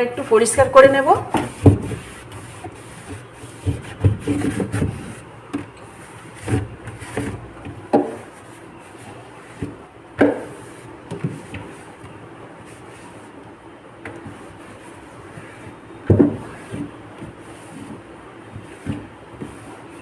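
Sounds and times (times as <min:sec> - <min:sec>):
cloth rubbing inside a fridge: 0:00.0 - 0:13.4, 0:14.1 - 0:20.0.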